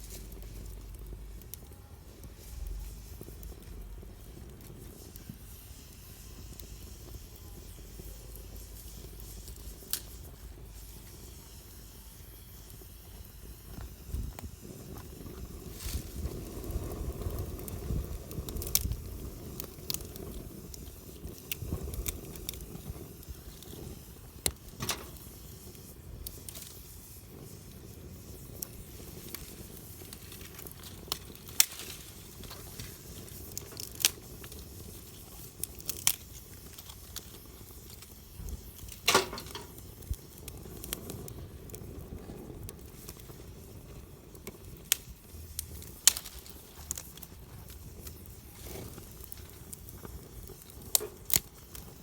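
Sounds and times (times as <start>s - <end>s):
campfire popping and crackling: 0.0s - 52.0s
low rumble of flames: 0.0s - 52.0s.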